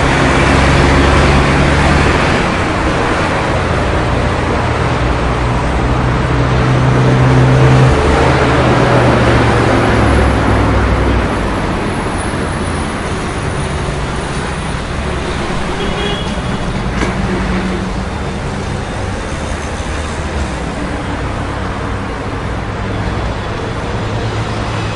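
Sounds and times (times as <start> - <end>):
traffic roar: 0.0 - 24.9.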